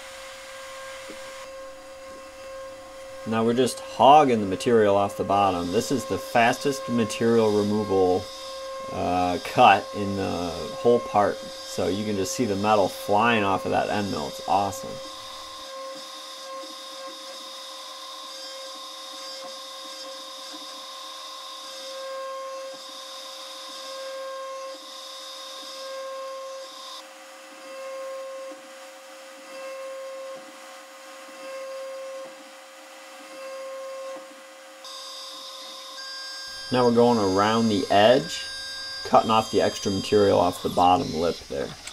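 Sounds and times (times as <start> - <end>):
milling cutter whine: 0.0 - 27.0, 29.4 - 41.9.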